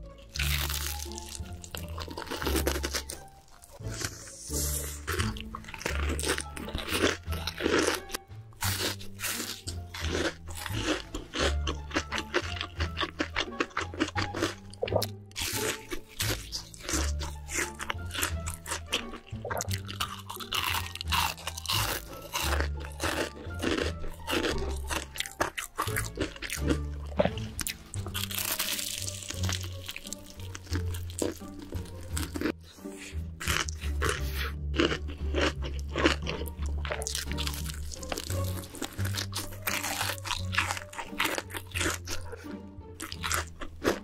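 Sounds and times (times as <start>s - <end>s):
background music with bass: 0.0s - 44.0s
crunching and chewing: 0.2s - 44.0s.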